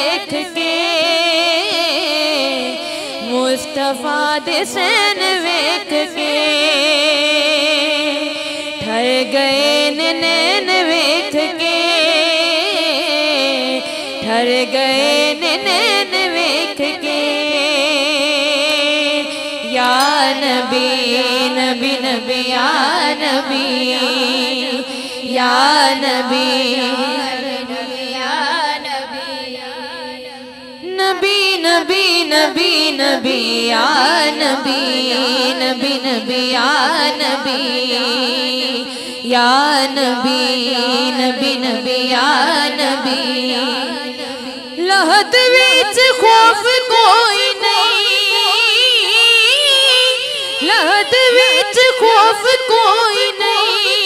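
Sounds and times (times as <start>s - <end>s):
wordless vocal melody with vibrato: 0.0s - 54.0s.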